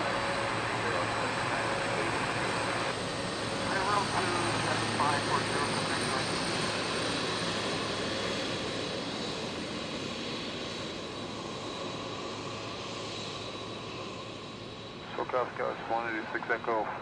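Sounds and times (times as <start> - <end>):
jet airliner engines rushing: 0.0 - 17.0.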